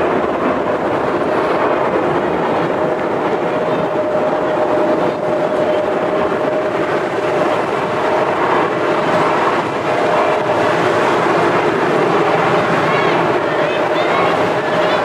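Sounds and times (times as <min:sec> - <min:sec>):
jet engine whine: 0:00.0 - 0:15.0
jet engines at takeoff thrust: 0:00.0 - 0:15.0.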